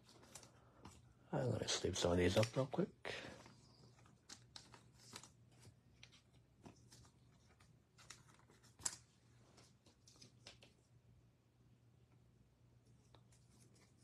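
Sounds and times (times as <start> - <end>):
faint rustling of card sleeves: 0.0 - 11.0, 12.7 - 14.0.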